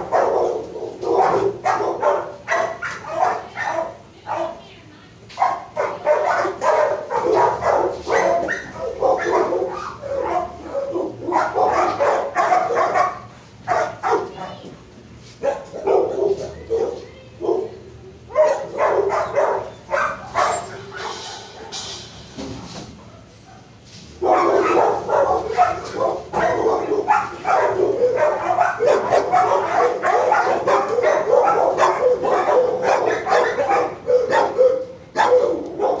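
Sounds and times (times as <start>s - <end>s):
dogs barking: 0.0s - 4.7s, 5.3s - 14.6s, 15.4s - 22.2s, 23.0s - 36.0s.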